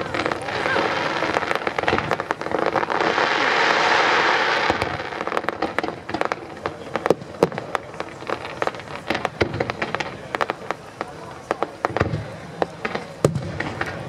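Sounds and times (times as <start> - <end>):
fireworks cracks and bangs: 0.0 - 14.0.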